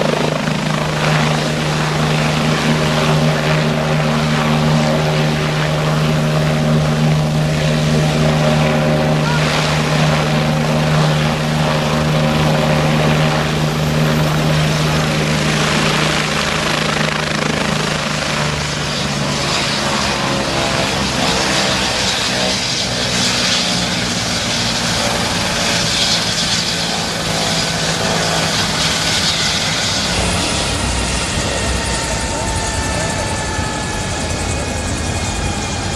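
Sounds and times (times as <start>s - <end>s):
helicopter rotor beat: 0.0s - 35.9s.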